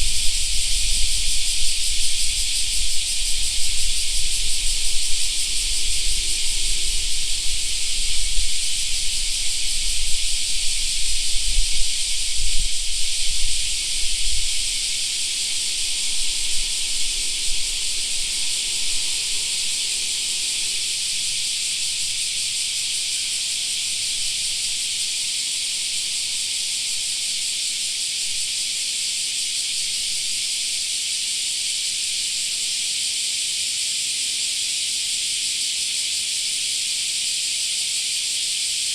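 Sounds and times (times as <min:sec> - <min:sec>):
cicadas droning: 0:00.0 - 0:38.9.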